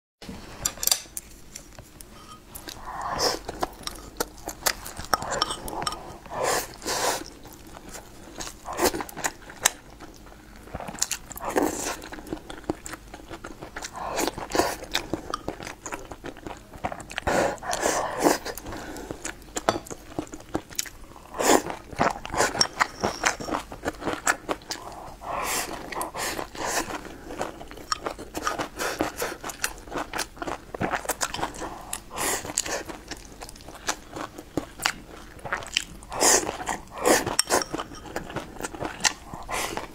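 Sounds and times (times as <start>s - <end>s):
chewing and mouth noises: 1.8s - 39.9s.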